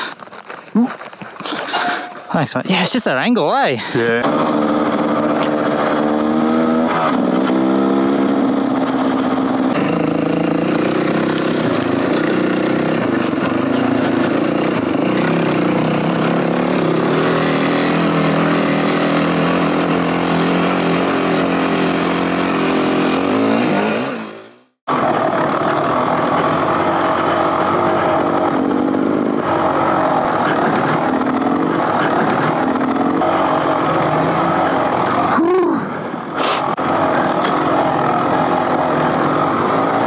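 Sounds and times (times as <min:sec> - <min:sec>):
dirt bike engine revving: 0:04.0 - 0:35.5, 0:36.1 - 0:40.0.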